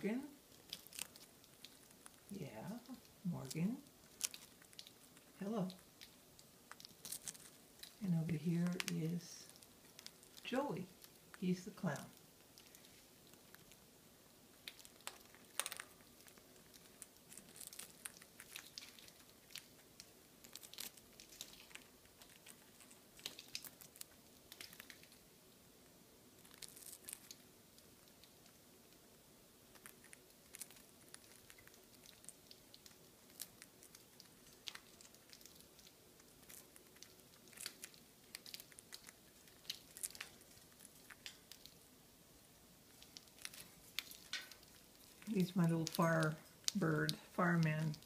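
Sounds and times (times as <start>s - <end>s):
parrots crunching dry food: 0.0s - 48.0s.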